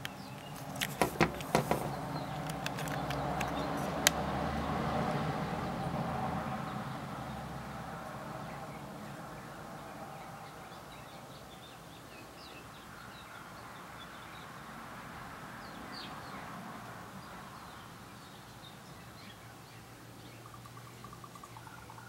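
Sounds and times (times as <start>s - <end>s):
small songbirds chirping: 0.0s - 22.0s.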